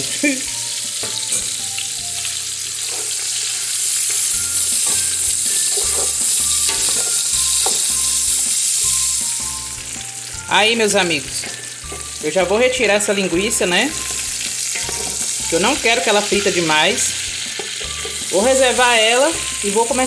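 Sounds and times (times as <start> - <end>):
sausage sizzling in fat: 0.0 - 20.0.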